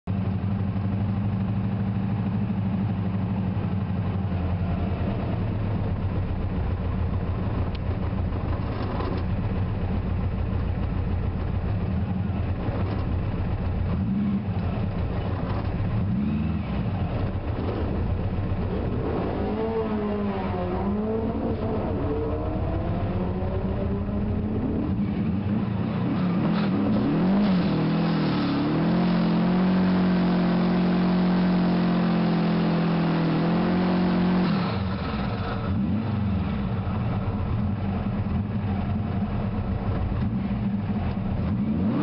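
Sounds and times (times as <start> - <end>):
car engine idling: 0.1 - 27.2, 34.8 - 42.0.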